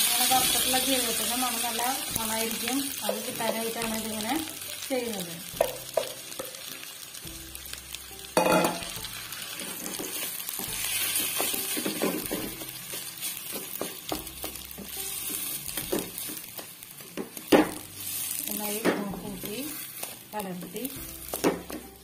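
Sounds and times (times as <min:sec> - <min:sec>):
oil sizzling: 0:00.0 - 0:22.0.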